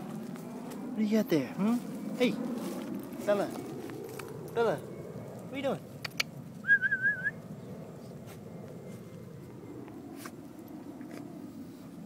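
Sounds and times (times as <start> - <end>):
pawing and digging in soil: 0.0 - 6.6, 7.6 - 12.0.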